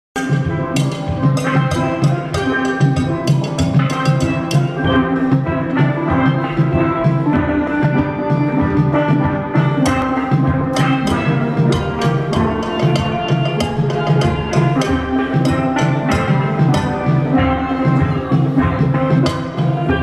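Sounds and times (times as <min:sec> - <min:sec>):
steel band playing: 0:00.2 - 0:20.0.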